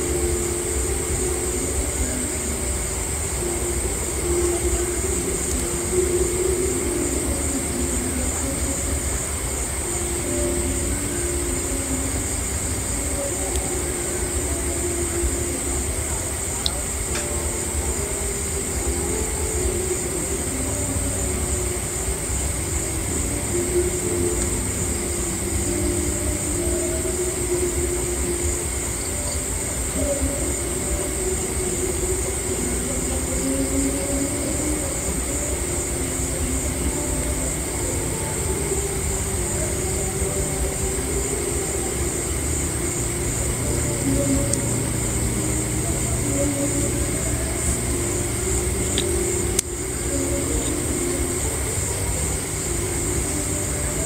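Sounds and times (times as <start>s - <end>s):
night insects chirring: 0.0s - 54.0s.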